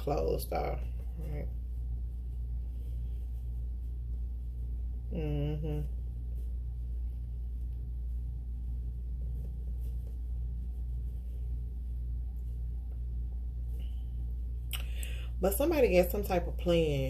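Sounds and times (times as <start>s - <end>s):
pulsing low hum: 0.0s - 17.0s.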